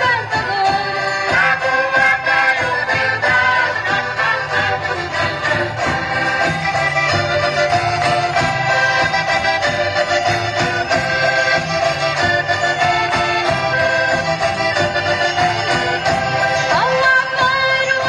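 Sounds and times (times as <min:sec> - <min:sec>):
accordion folk dance music: 0:00.0 - 0:18.0.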